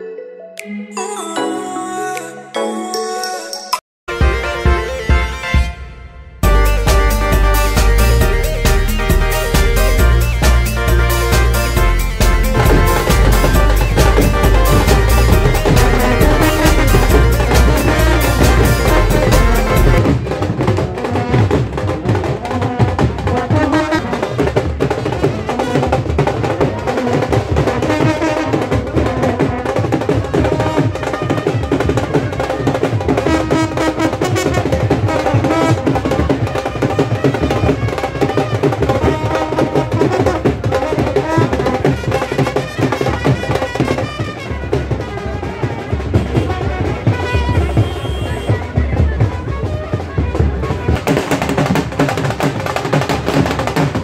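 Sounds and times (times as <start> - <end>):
brass band playing melody: 4.1 - 54.0
barrel drum beating fast rhythm: 6.4 - 54.0.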